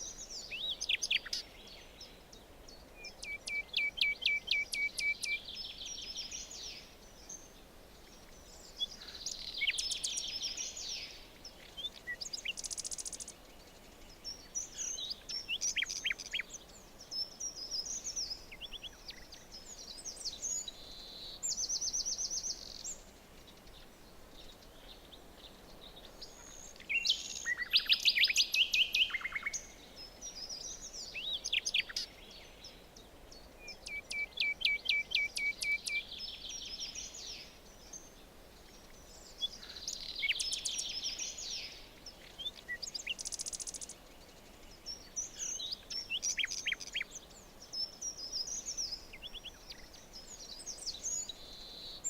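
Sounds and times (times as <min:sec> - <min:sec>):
faint steady hiss: 0:00.0 - 0:52.0
songbirds singing: 0:00.0 - 0:52.0.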